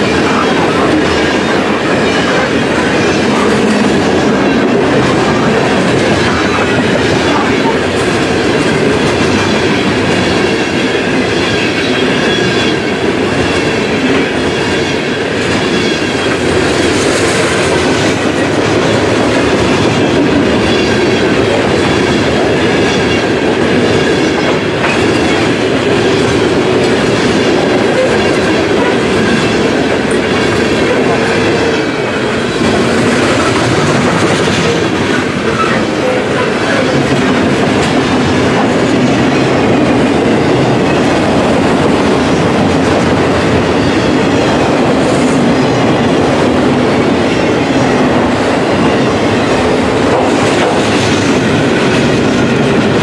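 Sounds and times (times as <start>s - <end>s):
freight train rumbling past: 0.0s - 53.0s
steel wheels clattering over rail joints: 0.0s - 53.0s.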